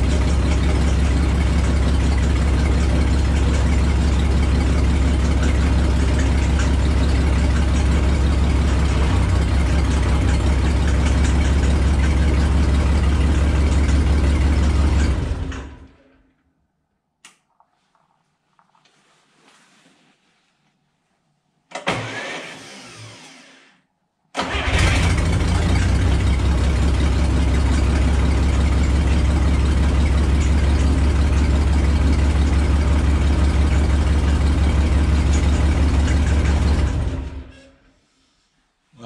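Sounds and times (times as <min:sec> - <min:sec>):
forklift engine starting and running: 0:00.0 - 0:16.4, 0:21.7 - 0:37.9.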